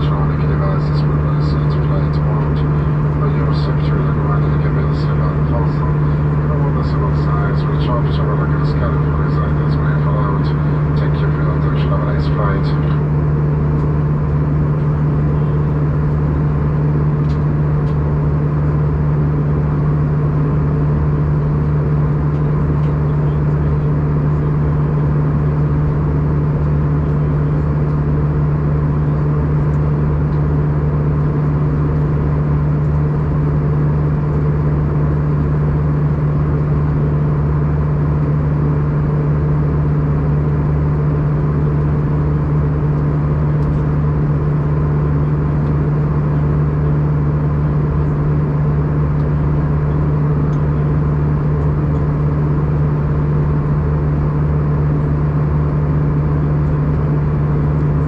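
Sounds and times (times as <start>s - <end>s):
airplane cabin engine drone: 0.0s - 58.0s.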